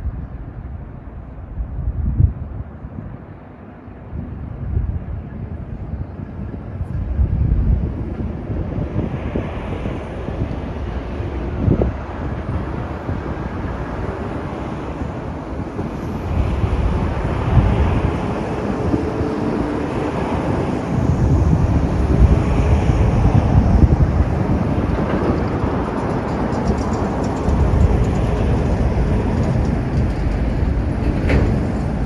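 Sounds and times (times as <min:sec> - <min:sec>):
vehicles passing on a highway: 0:00.0 - 0:32.0.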